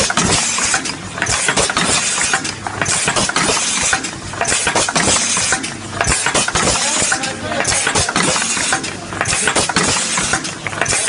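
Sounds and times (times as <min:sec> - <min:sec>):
machine clattering: 0:00.0 - 0:11.0.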